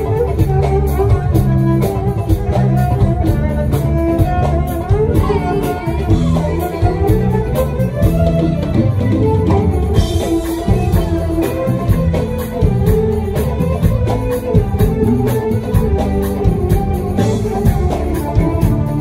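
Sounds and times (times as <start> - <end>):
live band instrumental music: 0.0 - 19.0
steady percussion beat: 0.0 - 19.0.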